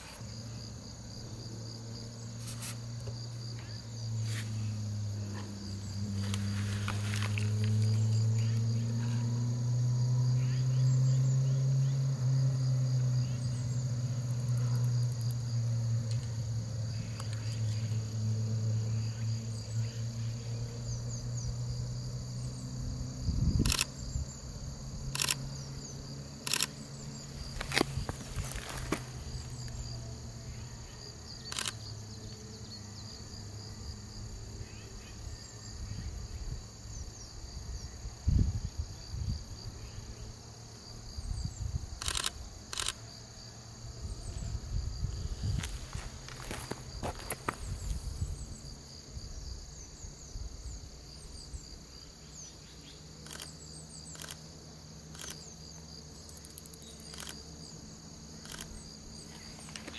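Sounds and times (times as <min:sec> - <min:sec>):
faint insect chirring: 0:00.0 - 0:59.9.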